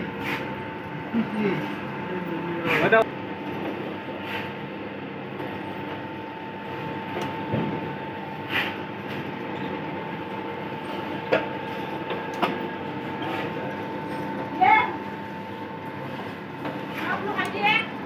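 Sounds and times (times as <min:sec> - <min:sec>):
noodle machine humming and whining: 0:00.0 - 0:18.0.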